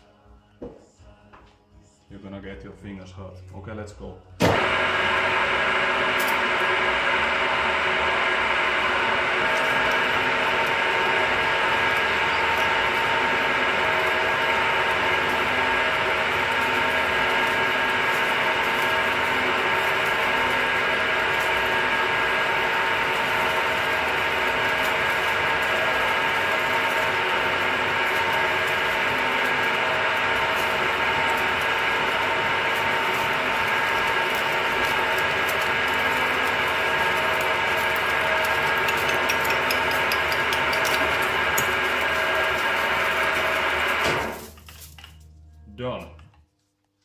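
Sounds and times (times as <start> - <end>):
milling machine cutting metal: 4.4 - 45.1
gear drive whine: 4.4 - 45.7.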